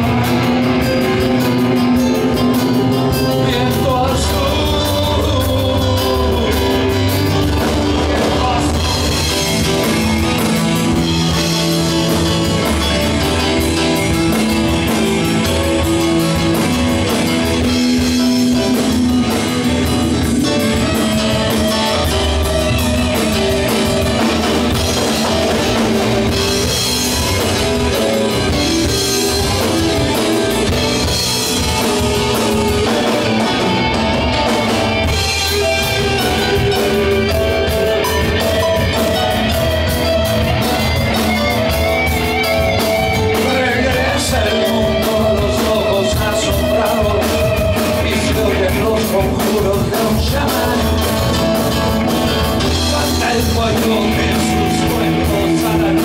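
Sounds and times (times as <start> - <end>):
drum kit: 0.0 - 56.0
electric bass guitar: 0.0 - 56.0.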